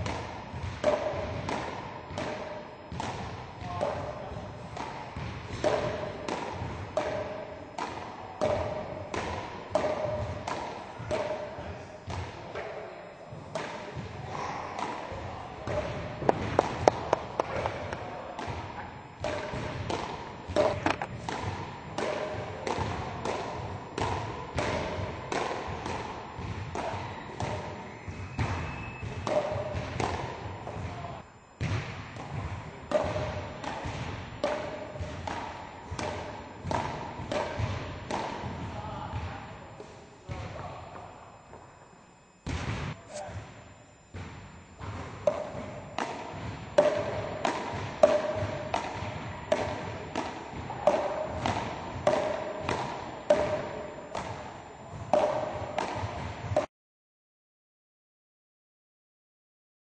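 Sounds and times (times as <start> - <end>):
paddles hitting a ball: 0.0 - 12.8, 13.5 - 41.6, 42.4 - 56.7.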